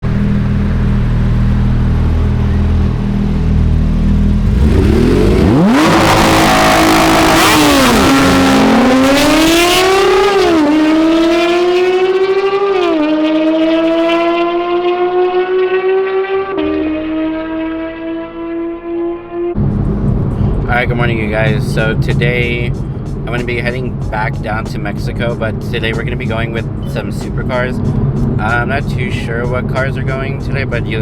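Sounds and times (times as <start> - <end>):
sports car engine revving: 0.0 - 31.0.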